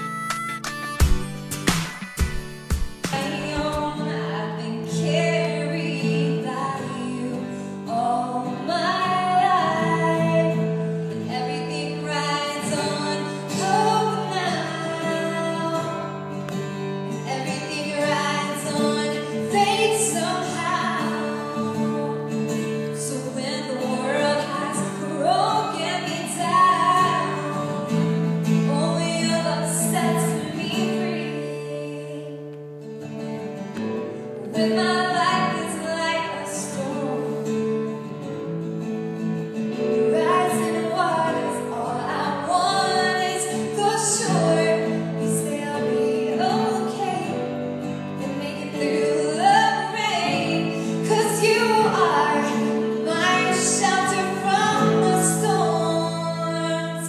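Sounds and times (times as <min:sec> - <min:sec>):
acoustic guitar: 0:00.0 - 0:57.0
woman singing: 0:03.0 - 0:32.6, 0:34.4 - 0:38.2, 0:39.7 - 0:57.0.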